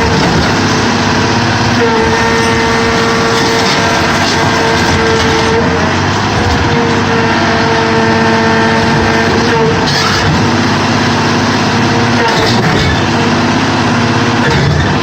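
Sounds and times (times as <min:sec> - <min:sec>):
baler machine droning and whining: 0:00.0 - 0:15.0.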